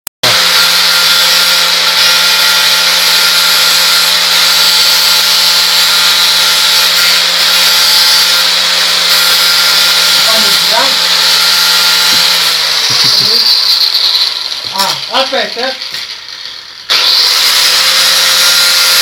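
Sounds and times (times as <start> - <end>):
angle grinder running: 0.2 - 19.0.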